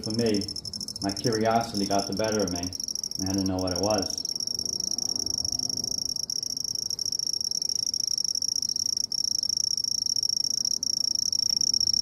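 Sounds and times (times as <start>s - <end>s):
cricket high-pitched trill: 0.0s - 12.0s.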